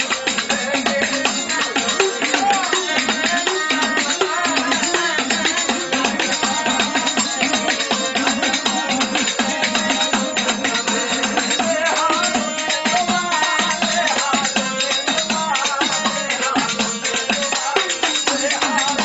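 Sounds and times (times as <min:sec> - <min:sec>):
drum beat: 0:00.0 - 0:19.0
jingling rattling percussion: 0:00.0 - 0:19.0.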